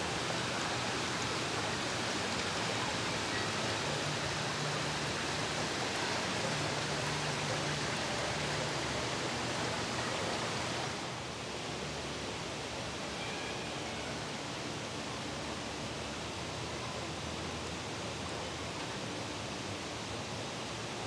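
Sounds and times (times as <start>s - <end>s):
running water rushing: 0.0s - 21.0s.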